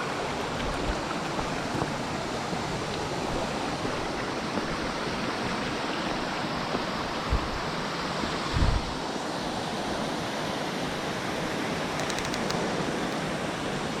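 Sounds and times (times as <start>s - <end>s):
water rushing in stream and waterfall: 0.0s - 14.0s.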